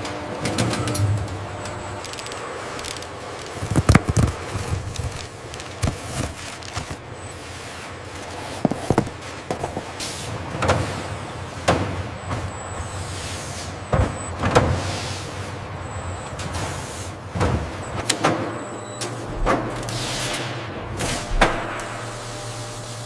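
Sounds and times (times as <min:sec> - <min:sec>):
factory machinery humming: 0:00.0 - 0:23.0.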